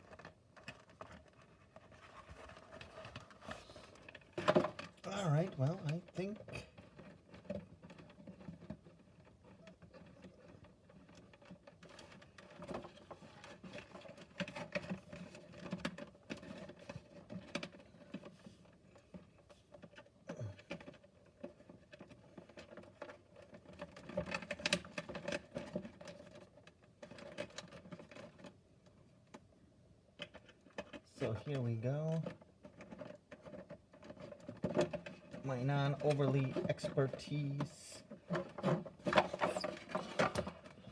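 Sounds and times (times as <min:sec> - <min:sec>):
cardboard pieces rustling and scraping: 0:00.0 - 0:05.9, 0:06.5 - 0:28.6, 0:32.0 - 0:40.9.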